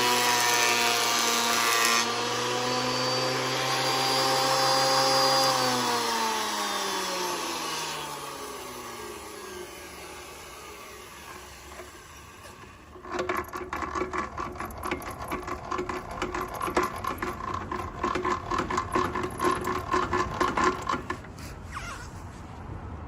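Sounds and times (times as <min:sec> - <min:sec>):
thickness planer running: 0:00.0 - 0:21.5
planer cutting board: 0:00.0 - 0:21.6.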